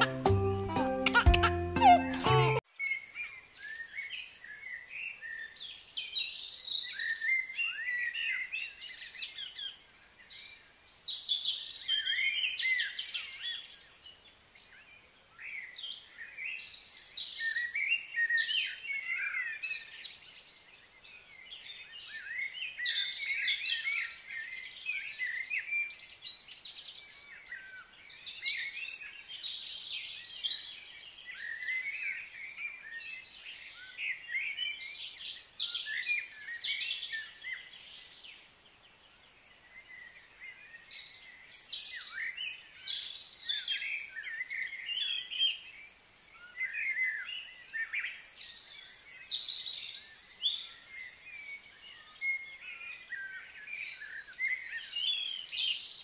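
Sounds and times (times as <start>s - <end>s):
birds chirping and singing: 0.0s - 14.2s, 14.8s - 38.4s, 39.2s - 56.0s.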